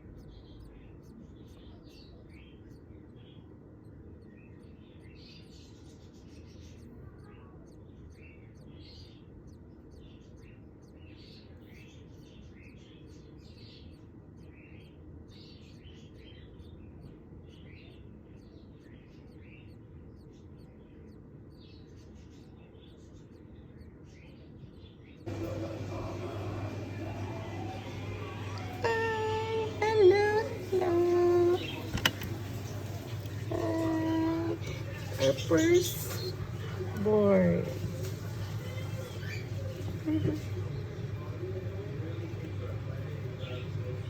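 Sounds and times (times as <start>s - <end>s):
lovebirds chirping: 0.0s - 44.0s
steady low hum: 7.6s - 44.0s.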